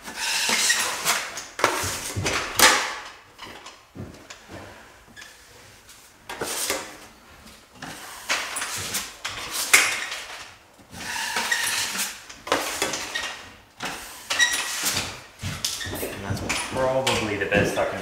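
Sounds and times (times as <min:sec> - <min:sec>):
trowel scraping drywall ceiling: 0:00.0 - 0:03.7, 0:05.2 - 0:18.0.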